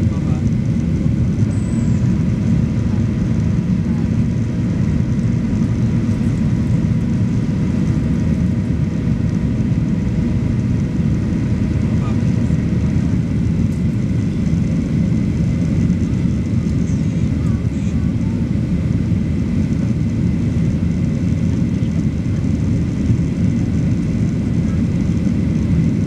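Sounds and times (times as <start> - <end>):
engine and airflow rush: 0.0 - 26.0
faint steady engine tones: 0.0 - 26.0.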